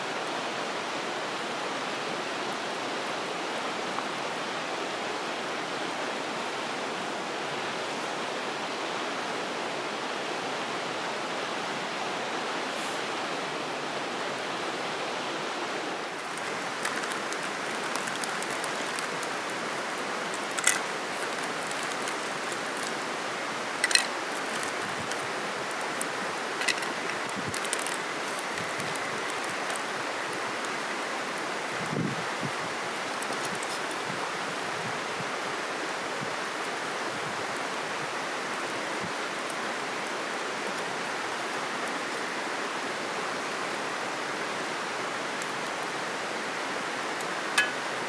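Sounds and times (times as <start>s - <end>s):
stream rushing: 0.0s - 48.0s.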